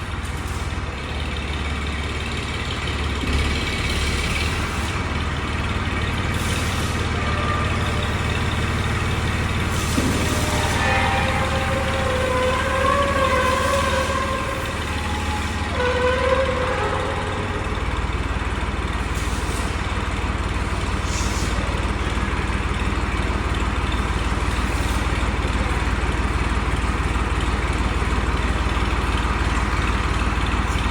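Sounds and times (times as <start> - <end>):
engine humming: 0.0 - 30.9.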